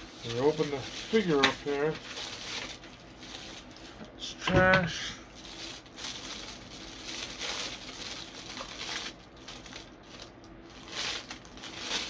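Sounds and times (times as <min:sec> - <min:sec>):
paper wrapping crinkling: 0:00.0 - 0:04.0, 0:05.3 - 0:12.0.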